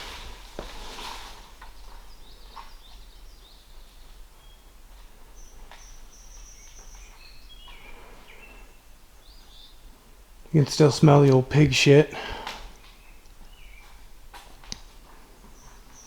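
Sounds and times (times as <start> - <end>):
small birds chirping: 1.6 - 16.0.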